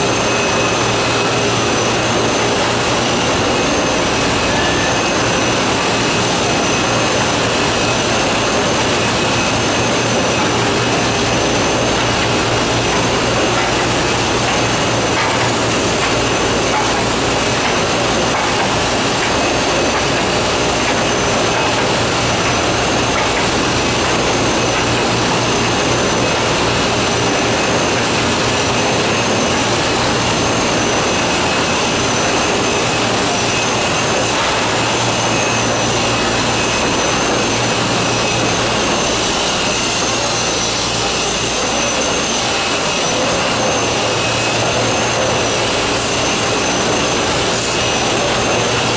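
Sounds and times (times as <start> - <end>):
high wavering whine: 0.0 - 48.9
machinery whirring drone: 0.0 - 48.9.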